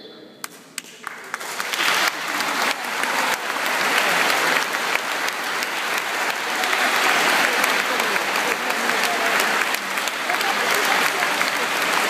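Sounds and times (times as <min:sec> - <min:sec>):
congregation applauding: 0:00.4 - 0:12.0.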